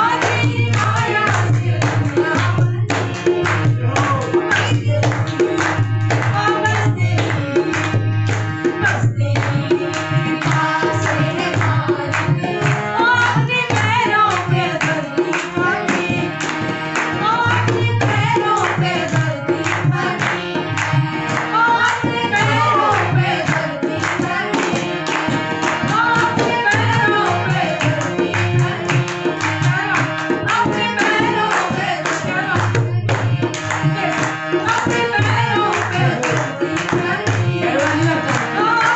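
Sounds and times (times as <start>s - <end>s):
hand drum: 0.0s - 16.0s, 17.2s - 38.9s
hands clapping in rhythm: 0.0s - 38.9s
harmonium: 0.0s - 38.9s
woman singing devotional song: 0.0s - 38.9s.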